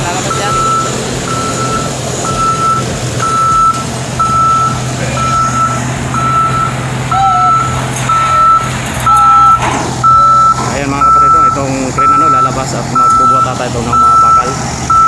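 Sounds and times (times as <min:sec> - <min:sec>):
crane back-up alarm beeping: 0:00.0 - 0:15.0
crane engine droning: 0:00.0 - 0:15.0.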